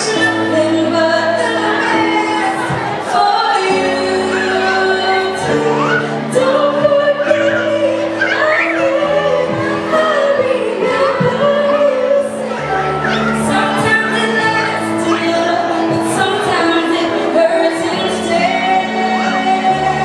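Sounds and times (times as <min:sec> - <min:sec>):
woman singing a ballad: 0:00.0 - 0:12.7, 0:13.3 - 0:20.0.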